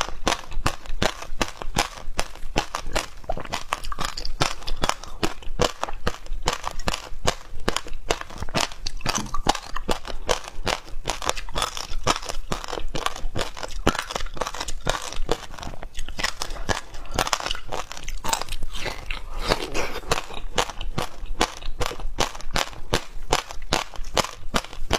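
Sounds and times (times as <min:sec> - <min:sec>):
shaved ice crunching when chewed: 0:00.0 - 0:24.9.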